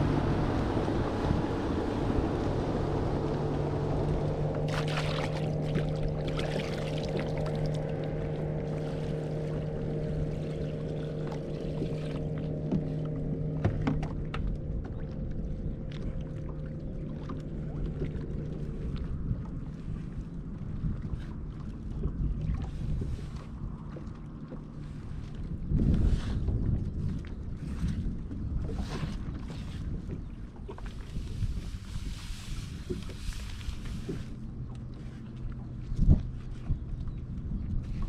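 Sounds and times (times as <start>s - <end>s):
boat engine hum: 0.0s - 38.0s
water noise: 0.0s - 38.0s
wind: 0.0s - 38.0s.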